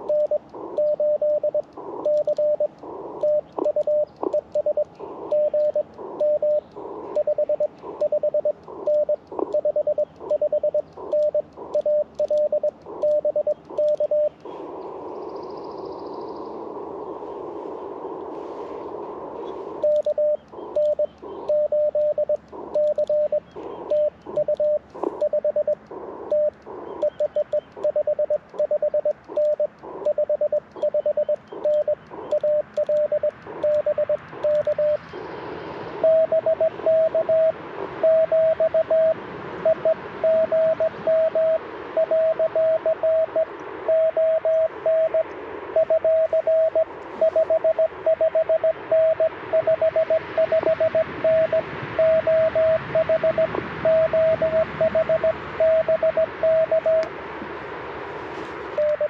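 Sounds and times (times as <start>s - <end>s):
morse code beeping: 0.0s - 14.4s, 19.4s - 35.1s, 36.0s - 57.1s, 58.7s - 59.0s
radio band noise hiss: 0.0s - 59.0s.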